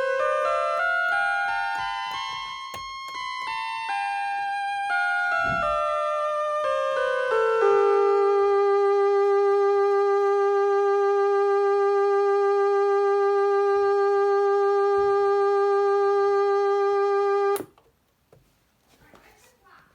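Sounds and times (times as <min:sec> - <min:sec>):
electronic keyboard music: 0:00.0 - 0:17.7.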